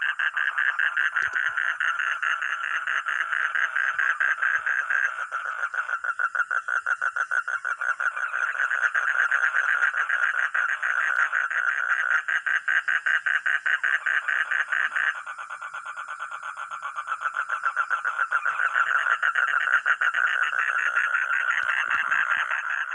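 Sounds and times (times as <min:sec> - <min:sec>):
frog croaking trill: 0:00.0 - 0:22.9.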